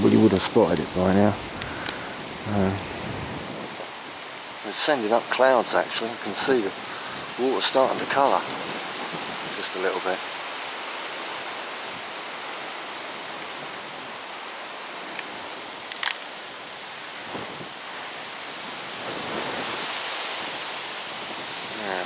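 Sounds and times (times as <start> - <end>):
wind rustling tree leaves: 0.0 - 22.0.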